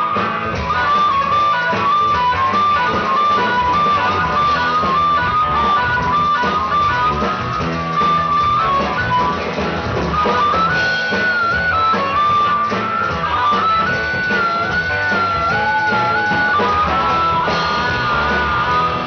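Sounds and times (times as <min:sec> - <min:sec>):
bass guitar: 0:00.0 - 0:19.0
drums: 0:00.0 - 0:19.0
electric guitar: 0:00.0 - 0:19.0
harmonica melody: 0:00.0 - 0:19.0.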